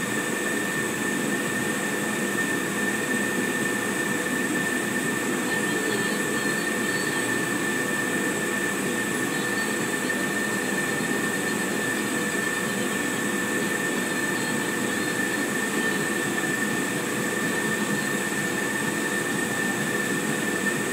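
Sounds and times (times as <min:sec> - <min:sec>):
laser engraver whirring and whining: 0:00.0 - 0:20.9.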